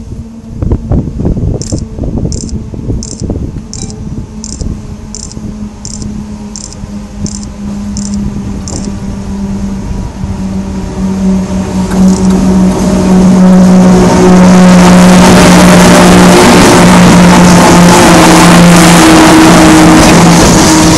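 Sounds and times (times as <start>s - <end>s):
electric locomotive humming: 0.0s - 20.9s.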